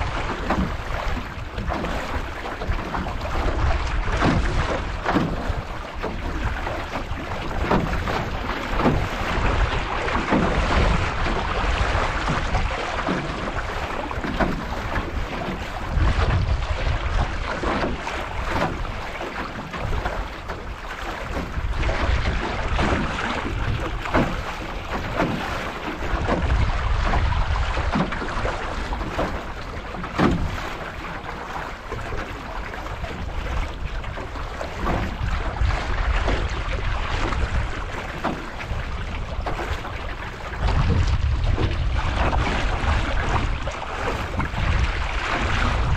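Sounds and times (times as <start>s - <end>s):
water rushing: 0.0s - 45.9s
waves slapping metal hull: 0.0s - 45.9s
wind buffeting microphone: 0.0s - 45.9s.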